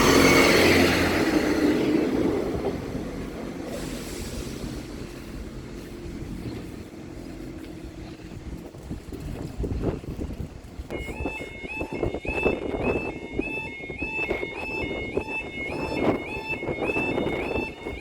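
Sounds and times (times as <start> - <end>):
diesel train passing: 0.0 - 18.0.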